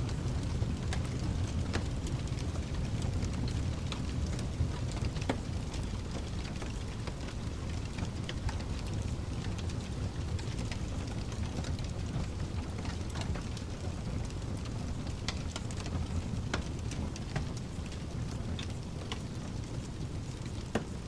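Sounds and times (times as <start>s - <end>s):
fire crackling in fireplace: 0.0s - 21.0s.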